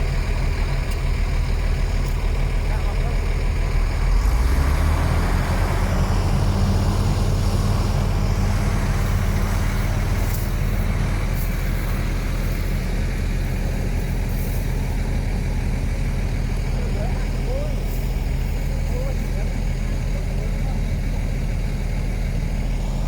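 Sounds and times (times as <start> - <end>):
heavy diesel engine drone: 0.0 - 23.0.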